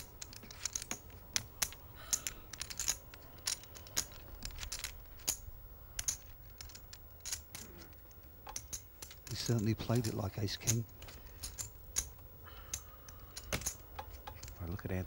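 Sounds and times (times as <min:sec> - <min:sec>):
clay poker chips clicking: 0:00.0 - 0:15.0.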